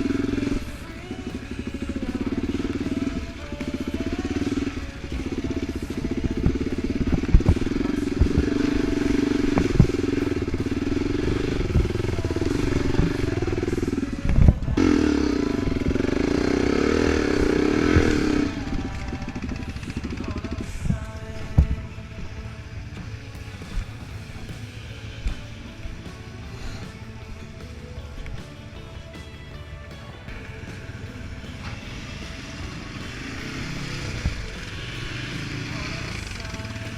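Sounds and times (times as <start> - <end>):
off-road vehicle engine revving: 0.0 - 36.9.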